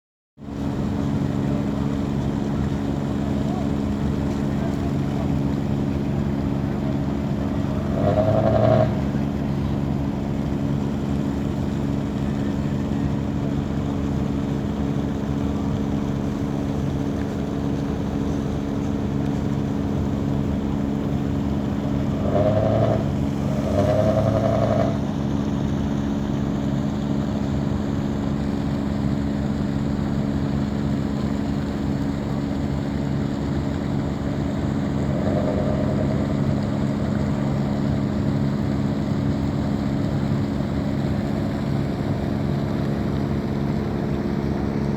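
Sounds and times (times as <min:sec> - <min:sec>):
boat engine humming: 0:00.4 - 0:44.9.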